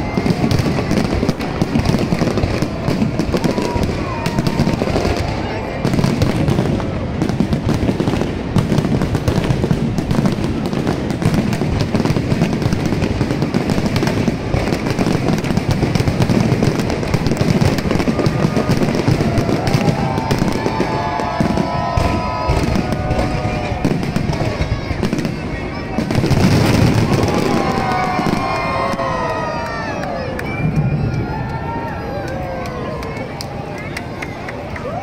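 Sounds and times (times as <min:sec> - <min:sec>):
fireworks crackling and banging: 0:00.0 - 0:35.0.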